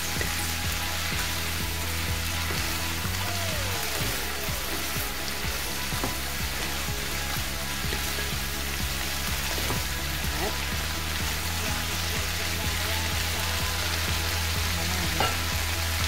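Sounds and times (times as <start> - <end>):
background music: 0.0 - 16.0
vegetables sizzling in a frying pan: 0.0 - 16.0.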